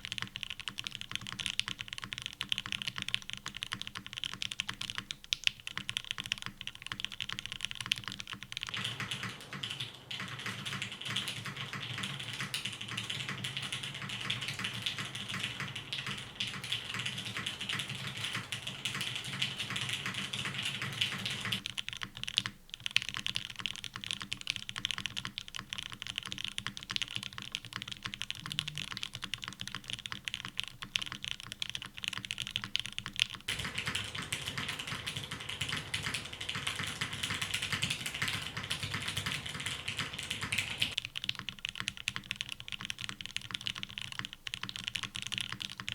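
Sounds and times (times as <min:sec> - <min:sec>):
mechanical keyboard typing: 0:00.0 - 0:45.9.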